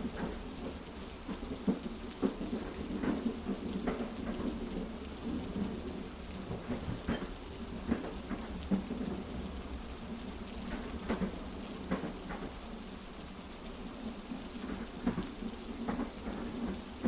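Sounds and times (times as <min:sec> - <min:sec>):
clacks from train track: 0:00.0 - 0:17.0
heavy rain: 0:00.0 - 0:17.0
train carriage rumble: 0:00.0 - 0:17.0.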